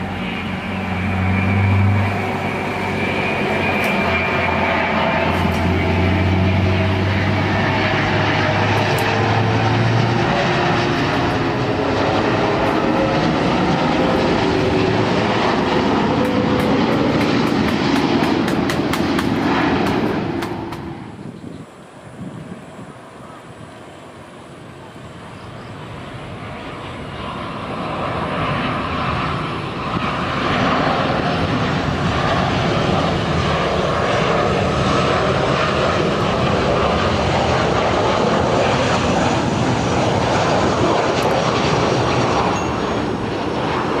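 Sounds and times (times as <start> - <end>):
faint engine whine: 0.0 - 44.0
jet engine noise: 0.0 - 44.0.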